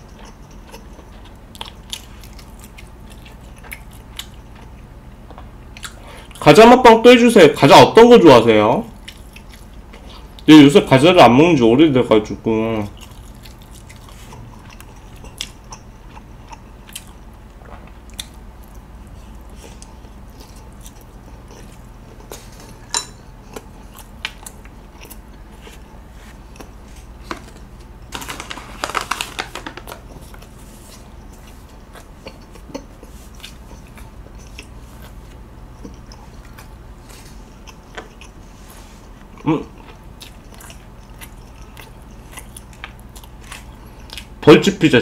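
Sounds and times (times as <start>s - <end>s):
chewing and biting: 0.0s - 6.4s, 8.9s - 10.5s, 12.9s - 44.4s.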